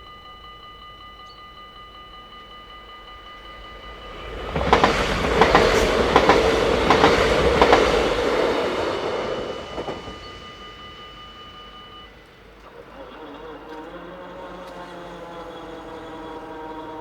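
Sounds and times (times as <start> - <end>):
crossing warning bells ringing: 0.0 - 17.0
train passing: 0.0 - 17.0
wheels clicking over rail joints: 0.0 - 17.0.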